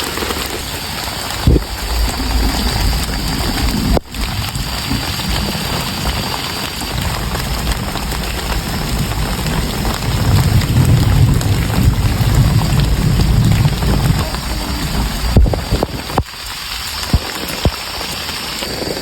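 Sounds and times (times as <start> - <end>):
heavy rain falling: 0.0 - 19.0
low rumble: 1.2 - 17.2.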